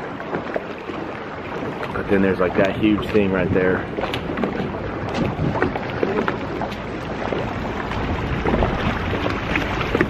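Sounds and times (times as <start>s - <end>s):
outboard motors running: 0.0s - 10.0s
water washing past hull: 0.0s - 10.0s
wind buffeting microphone: 0.0s - 10.0s.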